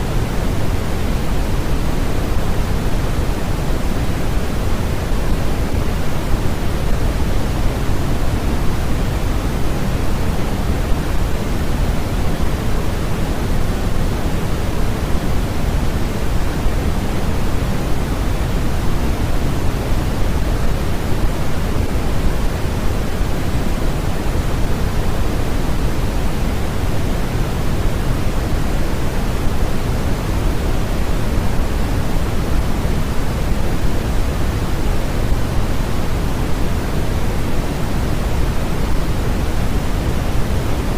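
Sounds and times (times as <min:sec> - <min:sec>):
pink noise: 0:00.0 - 0:40.9.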